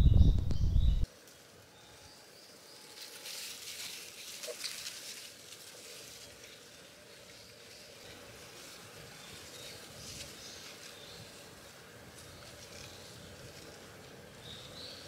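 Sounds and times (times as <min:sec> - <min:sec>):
soft rustling hiss: 0:02.5 - 0:15.0.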